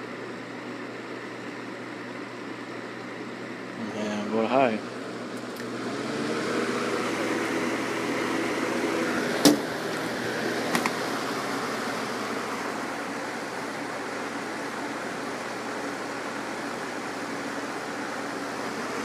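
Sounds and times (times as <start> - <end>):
box fan blowing air: 0.0 - 19.0
low motor hum: 2.8 - 19.0.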